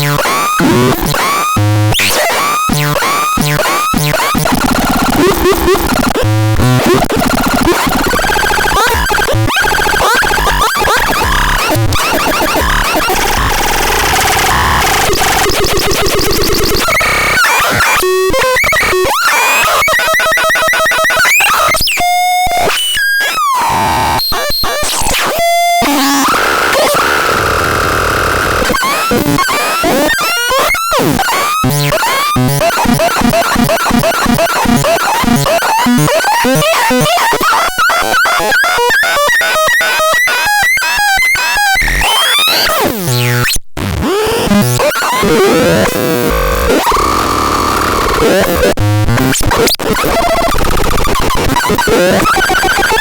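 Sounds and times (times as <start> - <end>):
bursts of electronic noise: 0.0 - 53.0
glitchy synthesized tones: 0.0 - 53.0.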